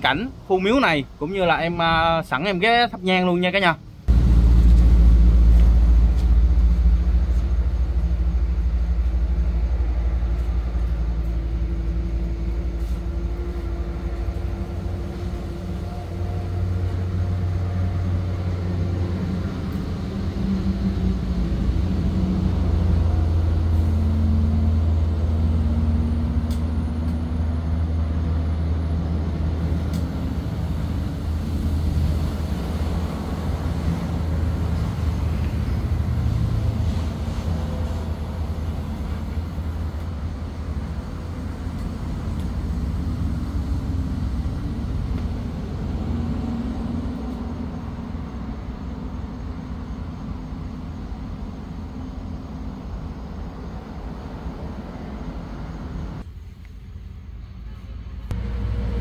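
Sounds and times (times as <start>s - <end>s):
highway traffic rumble: 0.0s - 59.0s.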